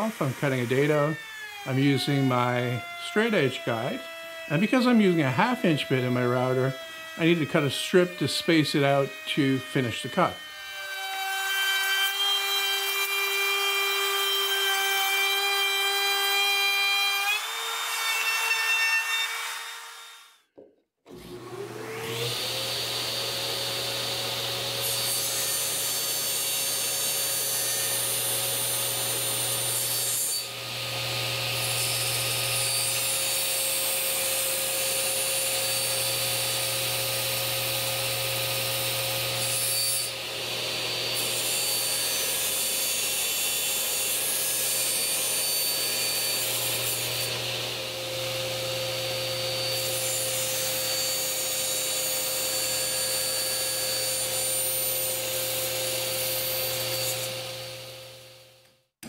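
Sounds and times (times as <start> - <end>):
router cutting plywood: 0.0 - 20.2, 21.1 - 58.5.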